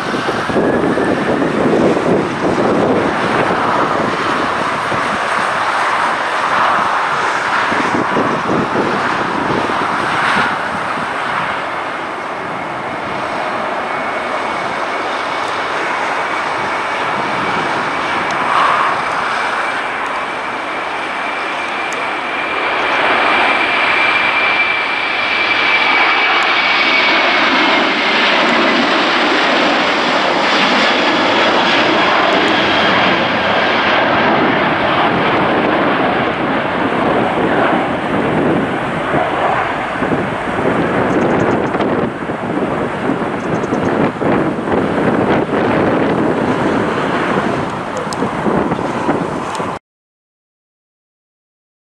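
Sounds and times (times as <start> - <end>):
jet engines at takeoff power: 0.0 - 49.8.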